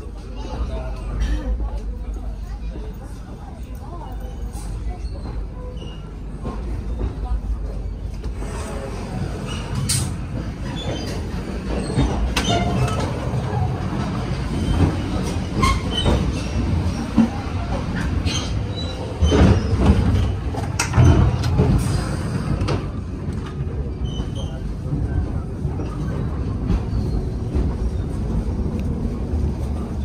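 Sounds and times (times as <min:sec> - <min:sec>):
train interior low rumble: 0:00.0 - 0:30.0
knocks and rattles of train cars: 0:04.4 - 0:30.0.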